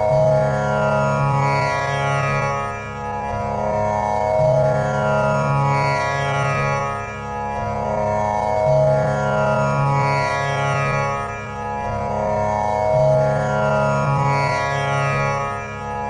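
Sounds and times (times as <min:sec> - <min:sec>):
tanpura drone: 0:00.0 - 0:16.0.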